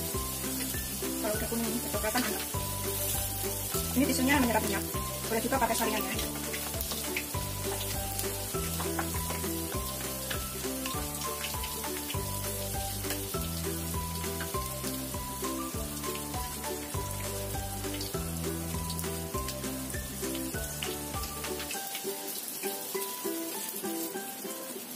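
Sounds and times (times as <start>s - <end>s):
background music with bass line: 0.0s - 21.7s
food deep-frying in sizzling oil: 0.0s - 24.9s.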